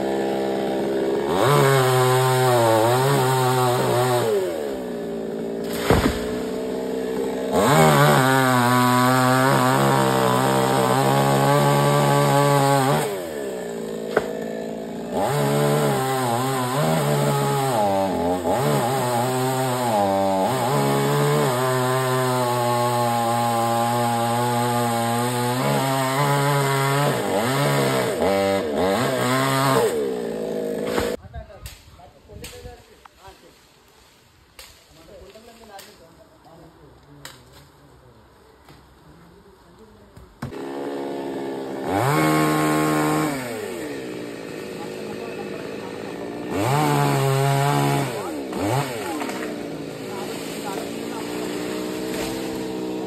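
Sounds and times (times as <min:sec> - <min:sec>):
chainsaw cutting wood: 0:00.0 - 0:31.2, 0:40.2 - 0:53.0.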